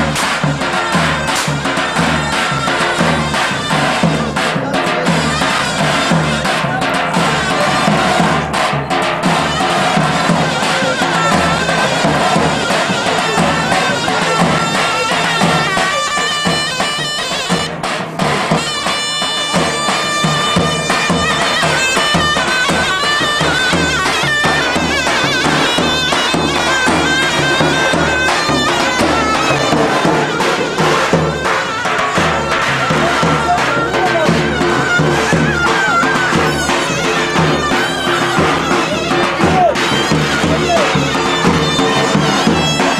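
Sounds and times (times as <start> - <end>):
crowd voices: 0.0 - 42.9
drum beating steady rhythm: 0.0 - 42.9
shrill reed pipe melody: 0.0 - 42.9.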